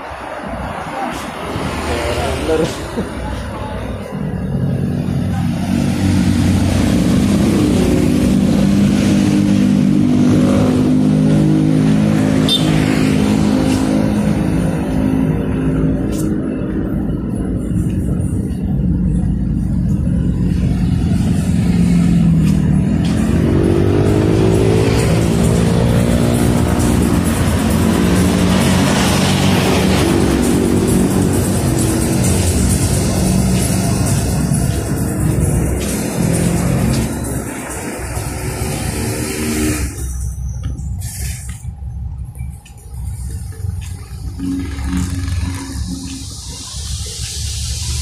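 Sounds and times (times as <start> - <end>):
vehicle engines running: 0.0 - 48.0.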